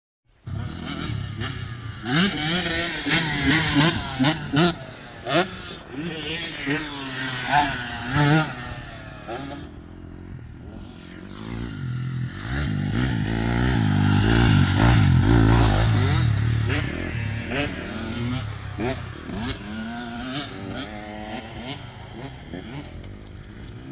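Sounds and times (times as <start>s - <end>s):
dirt bike engine revving: 0.4s - 23.9s.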